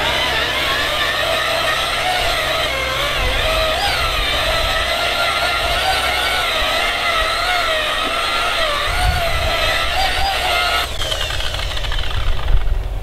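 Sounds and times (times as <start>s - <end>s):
polisher motor whining: 0.0s - 12.7s.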